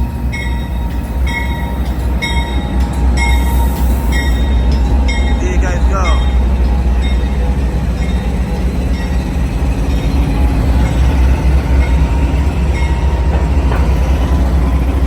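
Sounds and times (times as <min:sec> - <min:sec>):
train rolling past: 0:00.0 - 0:15.0.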